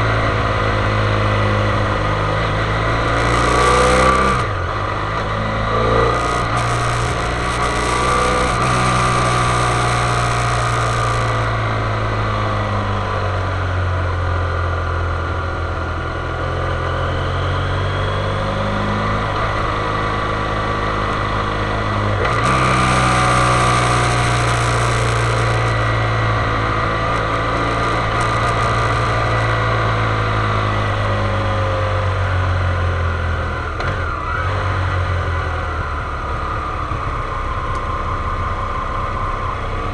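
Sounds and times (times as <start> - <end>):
motorcycle engine running: 0.0 - 18.2, 19.0 - 37.6.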